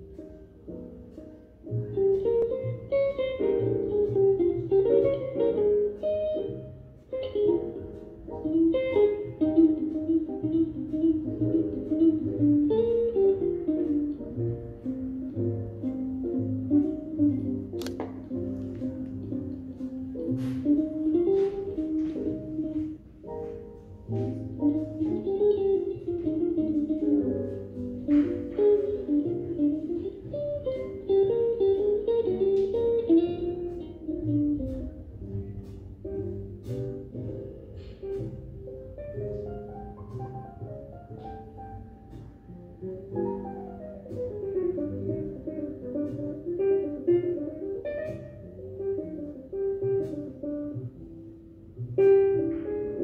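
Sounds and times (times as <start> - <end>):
low bass notes: 0.0 - 53.0
plucked guitar melody: 0.0 - 53.0.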